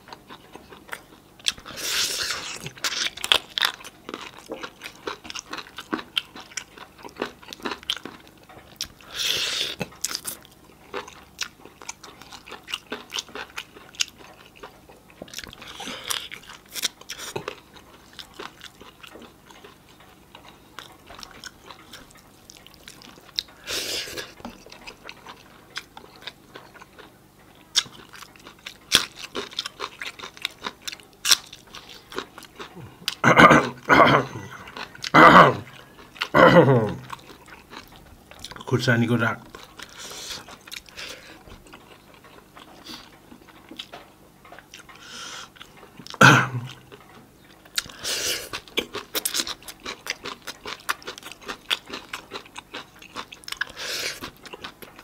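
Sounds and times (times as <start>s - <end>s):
wet chewing and lip-smacking: 0.0s - 55.0s.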